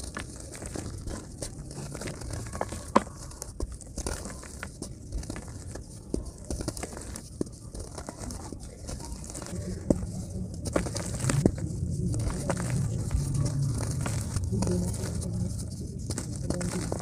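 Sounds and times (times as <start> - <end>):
dirt clumps crunching by hand: 0.0 - 17.0.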